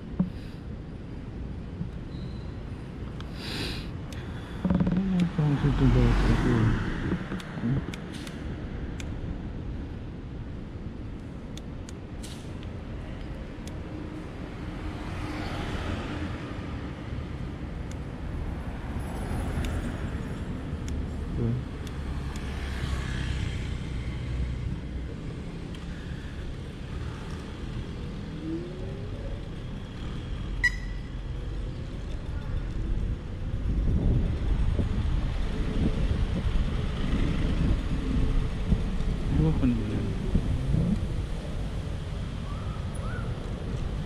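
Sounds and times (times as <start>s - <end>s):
passing car traffic: 0.0s - 44.0s
wind rumble and tyre noise: 0.0s - 44.0s.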